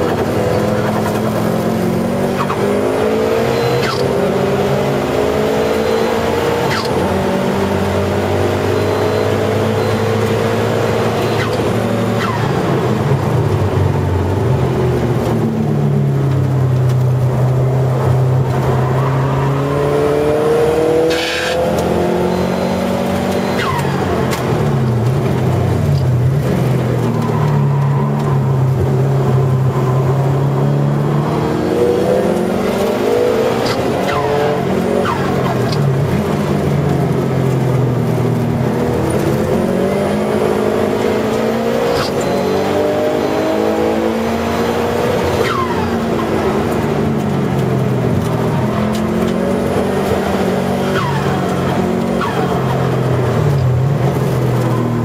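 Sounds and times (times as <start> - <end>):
car engine revving under acceleration: 0.0 - 55.0.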